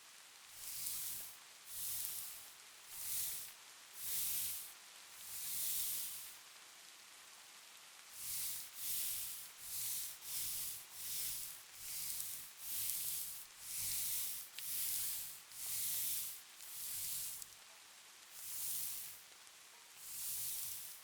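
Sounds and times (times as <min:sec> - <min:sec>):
rubbing strokes on skin: 0:00.5 - 0:06.4, 0:08.1 - 0:17.5, 0:18.3 - 0:19.4, 0:20.0 - 0:21.0.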